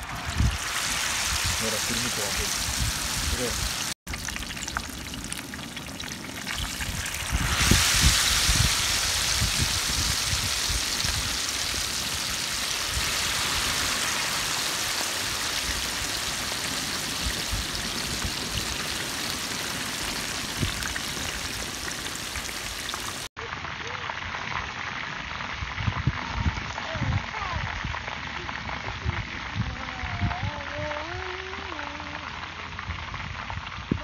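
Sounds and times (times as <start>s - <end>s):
chicken deep-frying in oil: 0.0s - 34.0s.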